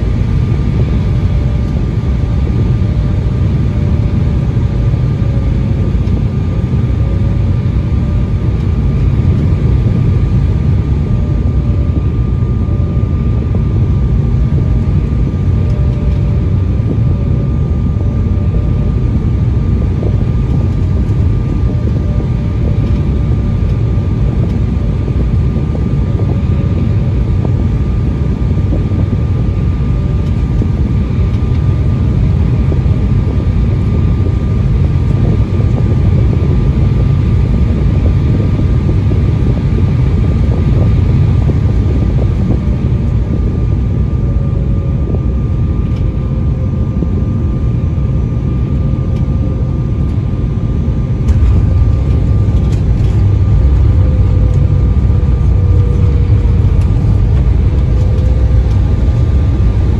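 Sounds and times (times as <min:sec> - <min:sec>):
airliner cabin rumble: 0:00.0 - 0:59.9
faint jet engine whine: 0:00.0 - 0:59.9.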